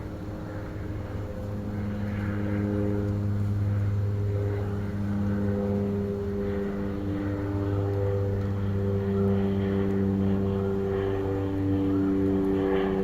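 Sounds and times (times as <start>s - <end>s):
engine droning hum: 0.0s - 13.0s.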